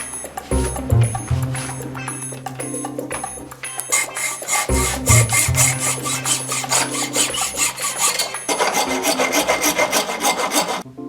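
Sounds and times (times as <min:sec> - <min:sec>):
hand file scraping: 0:00.0 - 0:10.9.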